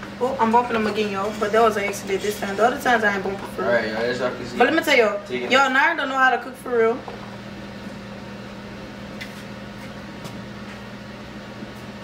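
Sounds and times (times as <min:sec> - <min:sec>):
kitchen fan motor hum: 0:00.0 - 0:12.0.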